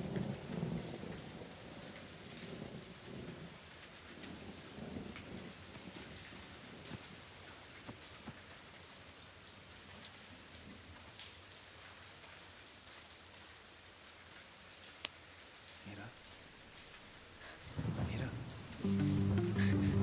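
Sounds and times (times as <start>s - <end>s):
steady rain patter: 0.0s - 20.0s.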